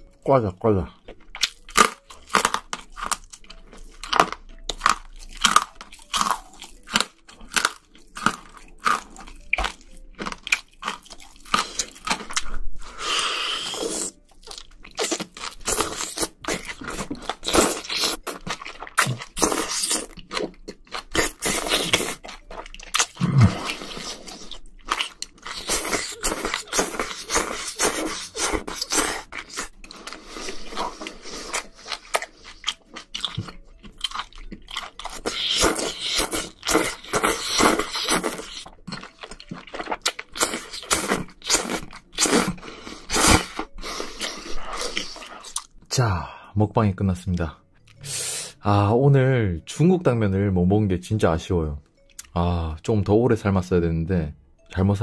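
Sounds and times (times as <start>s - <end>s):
chewing with crisp crunches: 0.9s - 45.9s.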